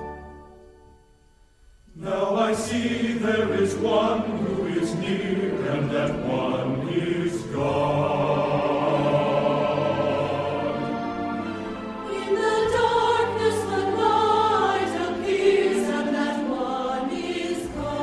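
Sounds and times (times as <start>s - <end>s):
choir singing with accompaniment: 1.9s - 18.0s.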